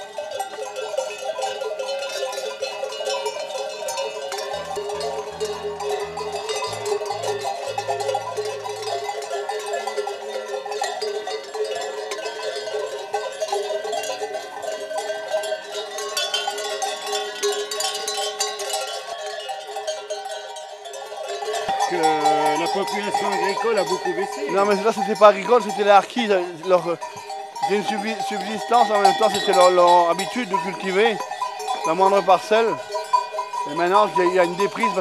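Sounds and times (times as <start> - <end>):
sheep bells clanking: 0.0 - 35.0.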